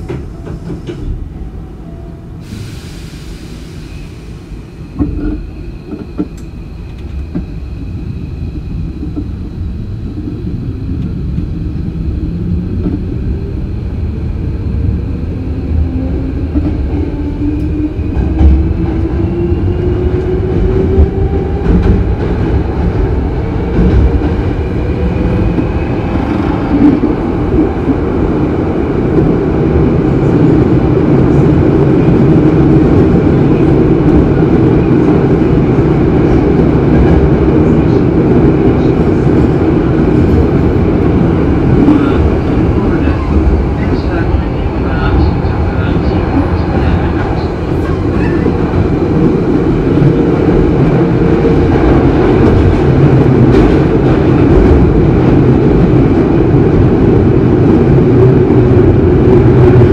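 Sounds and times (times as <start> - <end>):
wheel and track rumble: 8.5 - 59.9.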